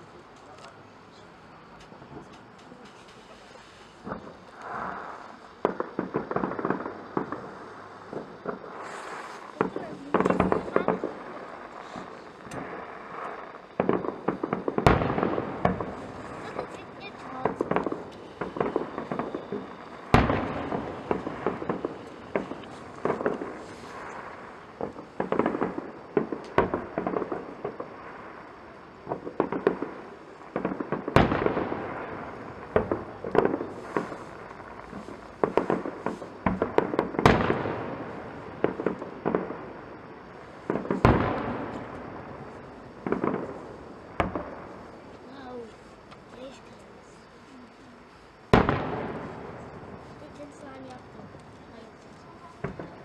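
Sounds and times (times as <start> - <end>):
fireworks bangs and crackle: 0.0 - 53.0.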